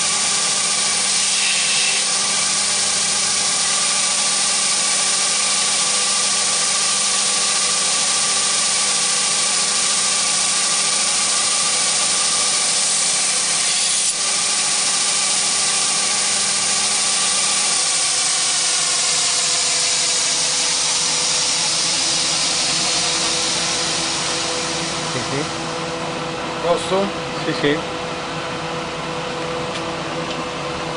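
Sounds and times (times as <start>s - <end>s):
belt grinder whir and hiss: 0.0s - 25.9s.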